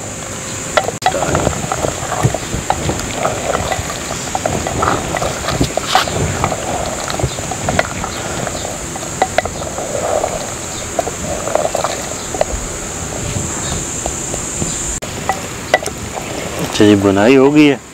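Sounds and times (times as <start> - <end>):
high insect drone: 0.0 - 17.9
wooden spoon scraping pot: 0.8 - 16.9.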